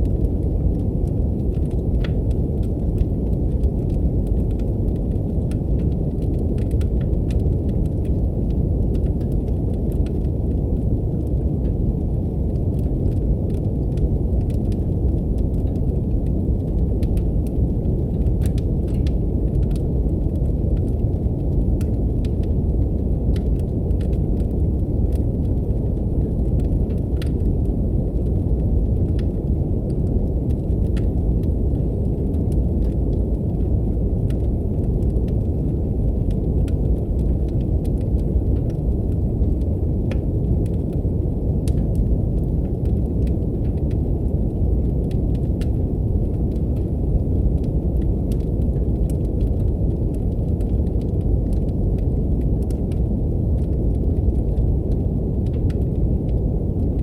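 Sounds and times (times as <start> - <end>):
deep rumbling brown noise: 0.0 - 57.0
wood fire crackling: 0.0 - 57.0.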